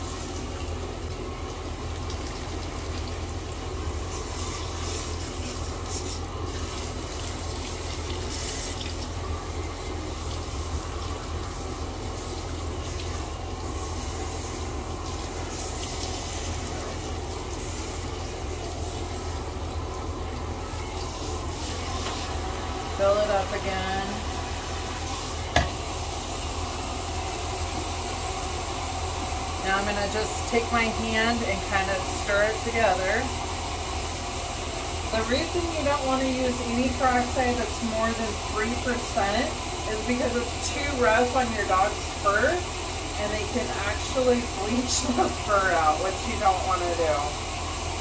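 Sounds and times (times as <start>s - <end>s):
shower sprayer water running: 0.0s - 48.0s.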